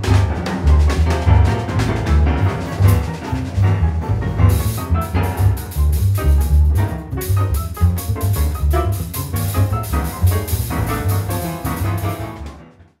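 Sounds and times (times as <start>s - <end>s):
double bass notes: 0.0s - 12.9s
jazz piano: 0.0s - 13.0s.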